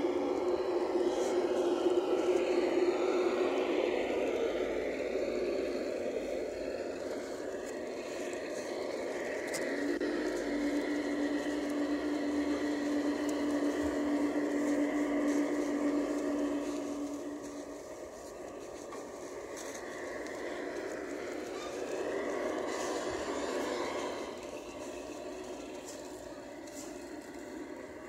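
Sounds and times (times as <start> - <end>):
model train motor whir: 0.0 - 28.0
steady hum: 0.0 - 28.0
wheels rolling on rails: 0.0 - 28.0.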